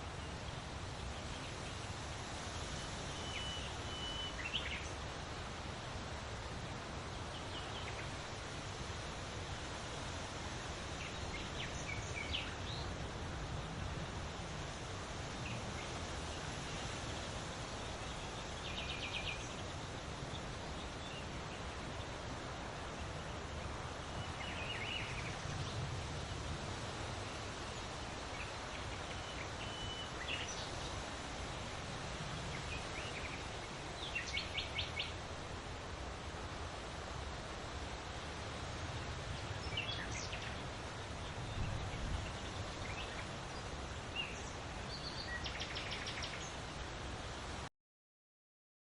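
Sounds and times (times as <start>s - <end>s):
wind rustling through leaves: 0.0s - 47.7s.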